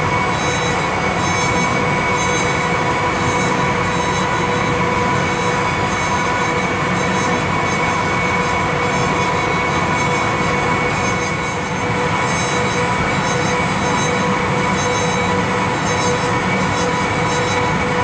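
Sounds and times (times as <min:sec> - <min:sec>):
constant high whine: 0:00.0 - 0:18.0.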